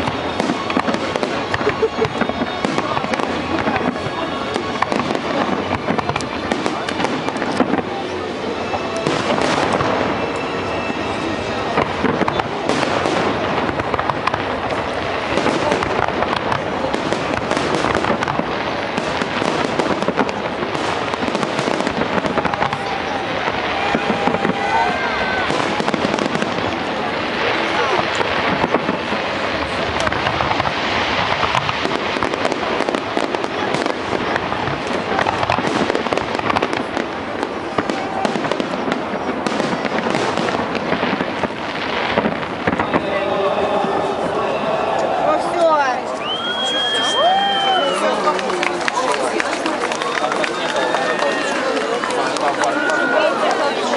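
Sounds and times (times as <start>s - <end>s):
sharp firework bangs: 0.0s - 43.4s
fireworks crackling and popping: 0.0s - 53.9s.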